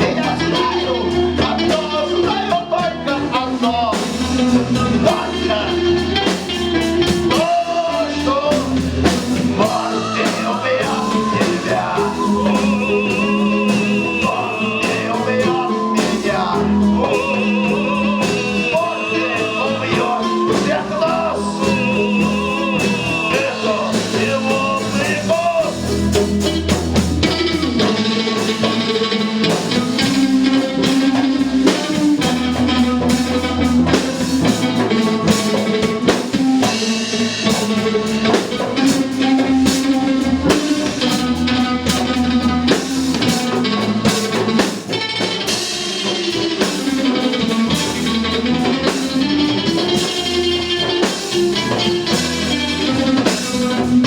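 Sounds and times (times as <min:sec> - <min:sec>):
drum kit steady beat: 0:00.0 - 0:54.0
live rock band playing: 0:00.0 - 0:54.0.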